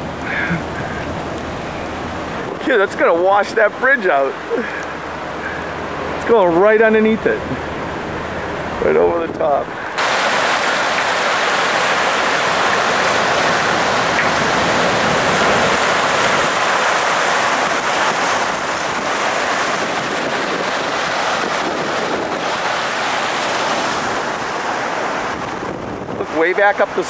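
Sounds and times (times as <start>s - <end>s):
flood water roaring: 0.0s - 27.0s.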